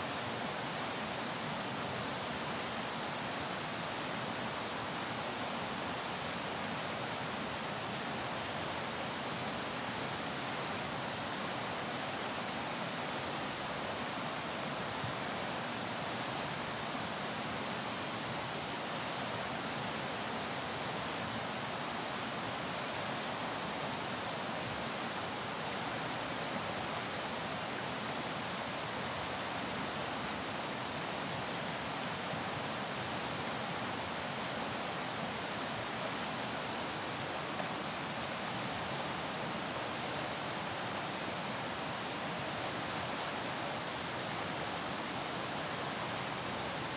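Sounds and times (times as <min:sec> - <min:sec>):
river water rushing over rocks: 0:00.0 - 0:46.9.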